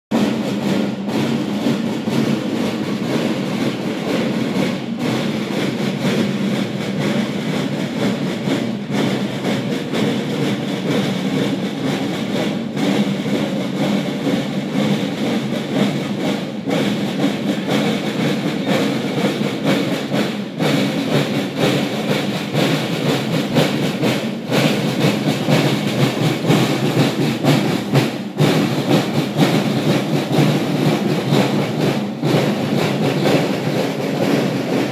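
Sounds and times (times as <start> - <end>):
snare drums playing march cadence: 0.1 - 34.9.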